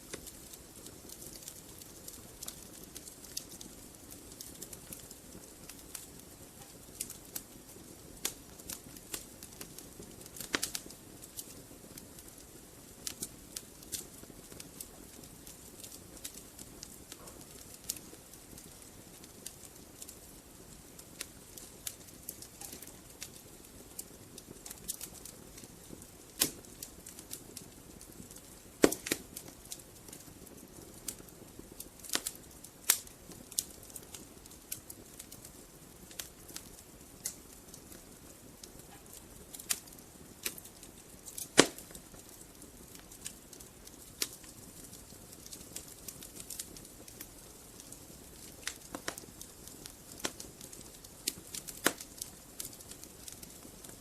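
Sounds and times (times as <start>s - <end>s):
soft steady fire hiss: 0.0s - 54.0s
wood fire crackling and popping: 0.0s - 54.0s.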